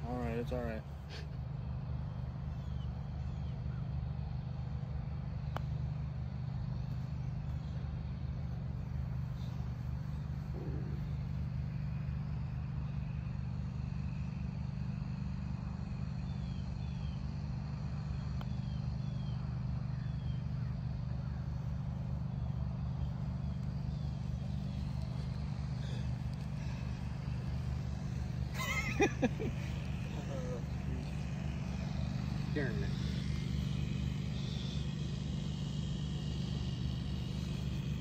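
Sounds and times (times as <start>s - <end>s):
low motor-like hum: 0.0s - 38.0s.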